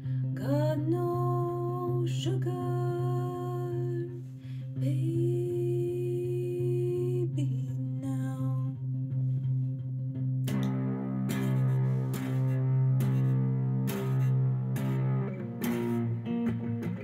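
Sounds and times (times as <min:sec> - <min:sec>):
electric guitar: 0:00.0 - 0:17.0.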